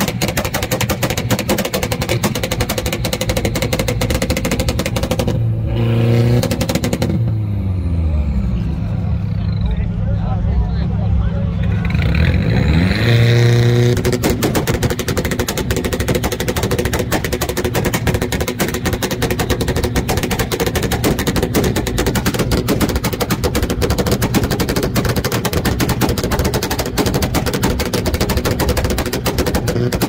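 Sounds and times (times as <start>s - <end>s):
exhaust bangs and pops: 0.0s - 7.5s, 11.6s - 30.0s
car engine revving: 0.0s - 30.0s.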